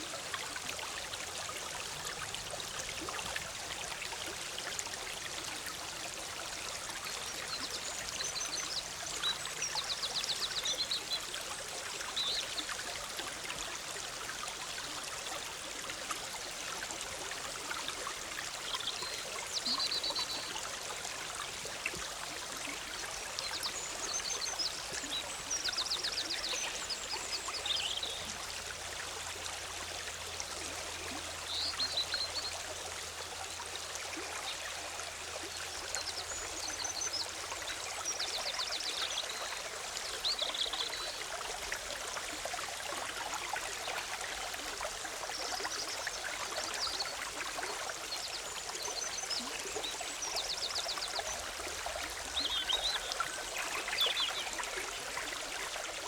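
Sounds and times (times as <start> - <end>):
stream bubbling over rocks: 0.0 - 56.0.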